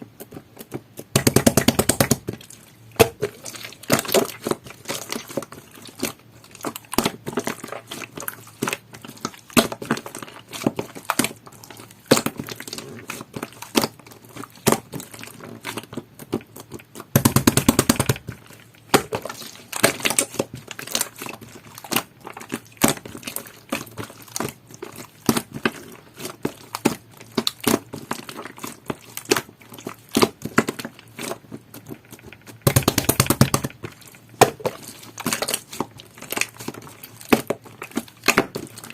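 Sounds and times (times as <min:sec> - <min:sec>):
hands squishing slime: 0:00.0 - 0:38.9
sticky popping and crackling clicks: 0:00.1 - 0:38.9.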